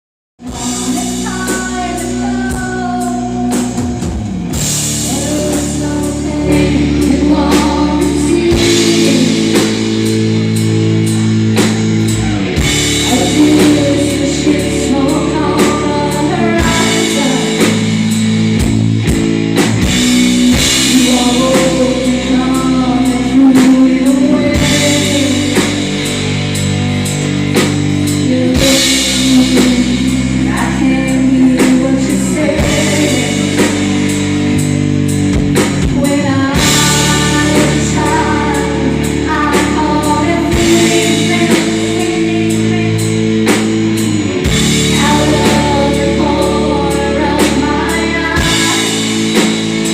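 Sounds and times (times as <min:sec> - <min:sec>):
person singing: 0:00.4 - 0:18.3, 0:20.2 - 0:26.2, 0:28.1 - 0:34.1, 0:35.6 - 0:49.9
drums: 0:00.4 - 0:49.9
electric guitar: 0:00.4 - 0:49.9
rock band playing live: 0:00.4 - 0:49.9.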